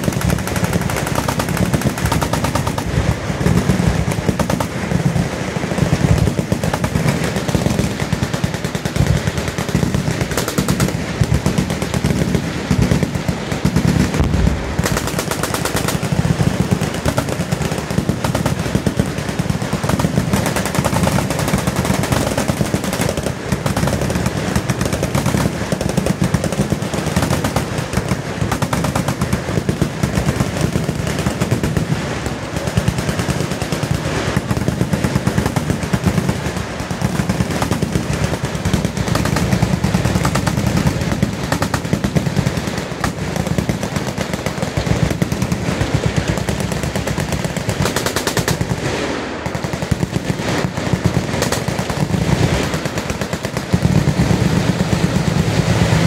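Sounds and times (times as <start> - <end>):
machine guns firing: 0.0 - 56.0.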